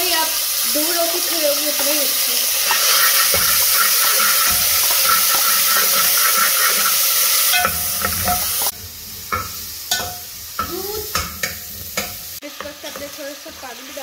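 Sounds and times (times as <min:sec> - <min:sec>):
onions sizzling in hot oil: 0:00.0 - 0:14.0
metal spatula stirring pot: 0:02.6 - 0:14.0.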